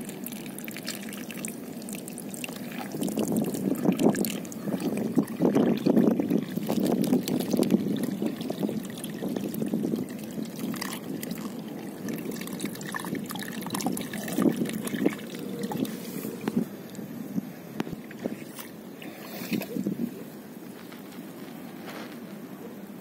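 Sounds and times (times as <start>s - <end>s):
shallow water trickling: 0.0s - 21.4s.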